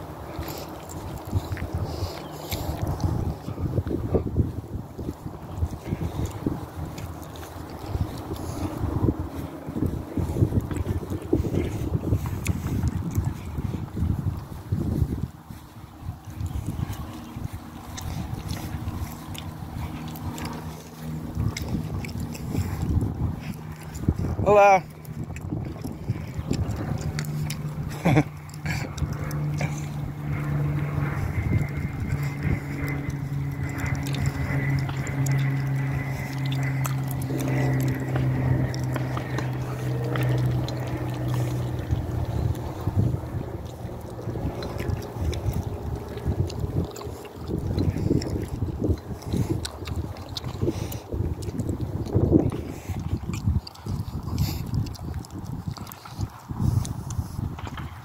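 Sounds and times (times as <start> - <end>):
small motor humming: 0.0 - 54.8
wind buffeting microphone: 0.0 - 58.0.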